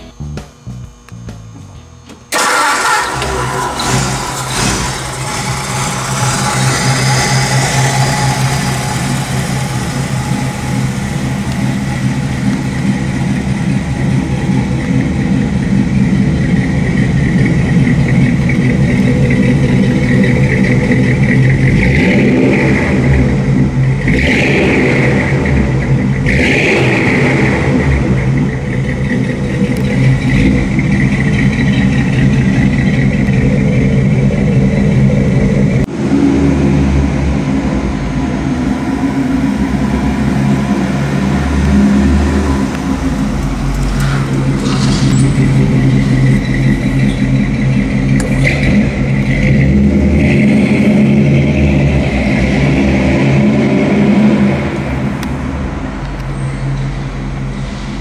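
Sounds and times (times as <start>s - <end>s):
car engine gurgling and revving: 0.0s - 58.0s.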